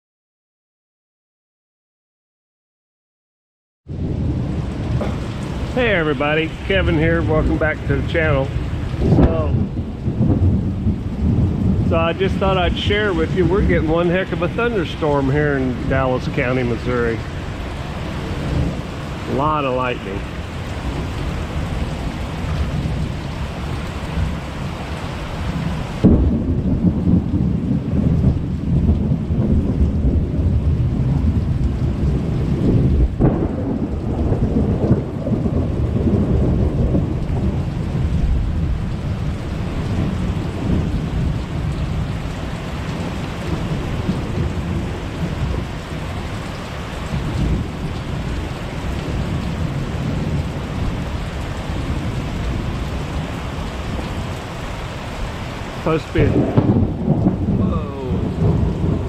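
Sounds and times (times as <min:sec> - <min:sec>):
falling rain: 0:03.9 - 0:59.0
thunder rumbling: 0:03.9 - 0:59.0.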